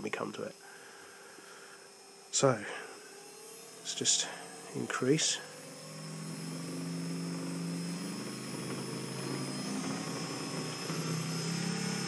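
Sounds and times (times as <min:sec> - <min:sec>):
motor whine and propeller hum: 0:00.5 - 0:12.0.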